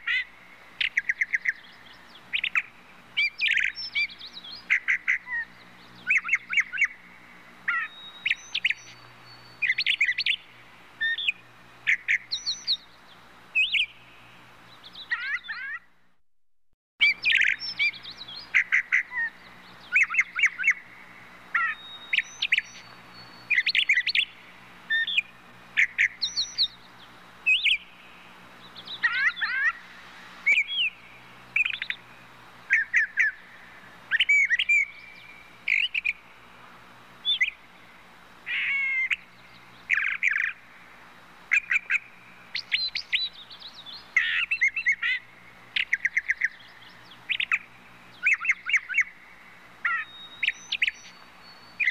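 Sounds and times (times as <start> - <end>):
small birds chirping: 0.0 - 15.9, 17.0 - 51.9.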